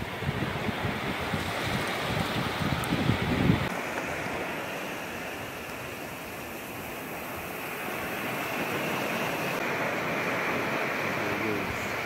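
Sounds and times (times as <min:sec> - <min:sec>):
surf washing up beach: 0:00.0 - 0:12.0
wind rumble on microphone: 0:00.0 - 0:12.0.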